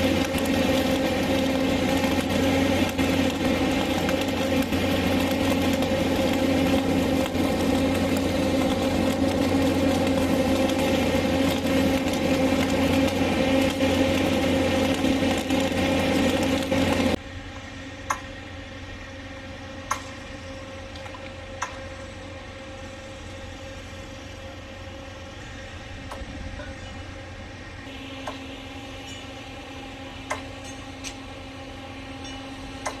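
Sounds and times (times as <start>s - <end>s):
welding machine engine hum: 0.0s - 33.0s.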